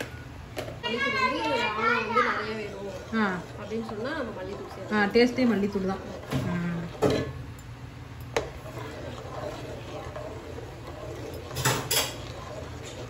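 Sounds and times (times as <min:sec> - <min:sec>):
ladle stirring in a metal pot: 0:00.6 - 0:13.0.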